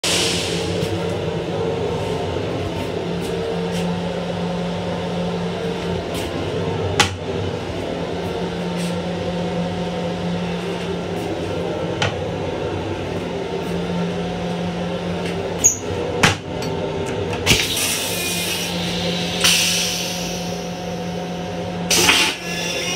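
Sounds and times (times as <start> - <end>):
railcar equipment hum: 0.0 - 22.9.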